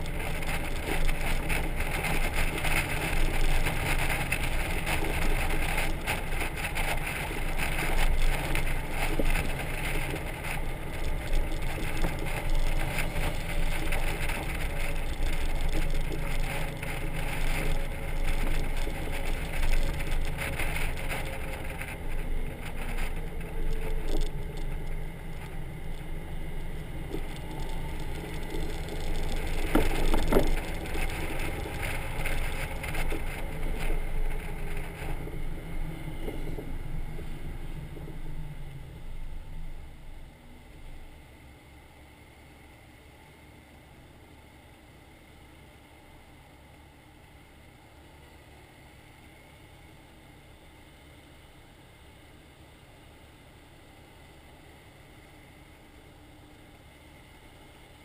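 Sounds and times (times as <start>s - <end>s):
faint motorcycle engine hum: 0.0s - 58.0s
low road rumble of trailer: 0.0s - 58.0s.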